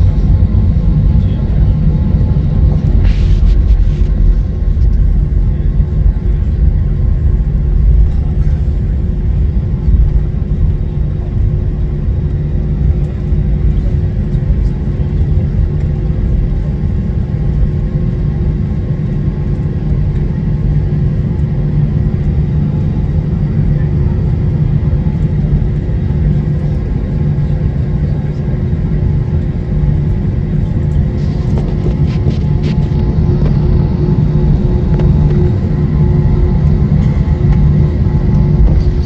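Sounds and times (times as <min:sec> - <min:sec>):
engine idling with whine: 0:00.0 - 0:39.0.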